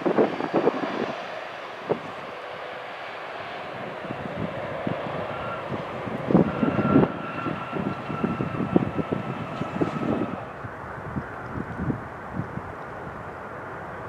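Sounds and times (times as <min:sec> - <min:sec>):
jet engine whine: 0:00.0 - 0:14.0.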